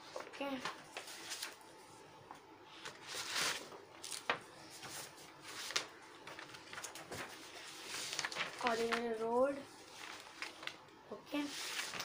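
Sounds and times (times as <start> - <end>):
paper rustling: 0.0 - 1.7, 2.8 - 12.0.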